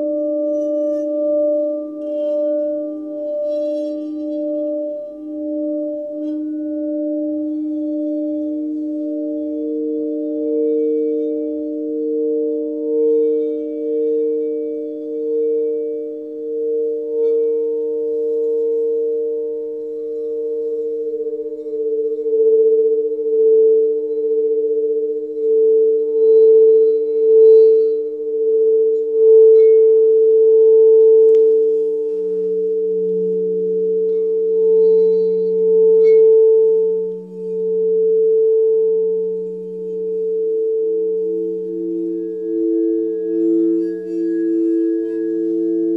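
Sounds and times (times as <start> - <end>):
crystal singing bowls ringing: 0.0 - 45.9
low singing bowl tone: 0.0 - 45.9.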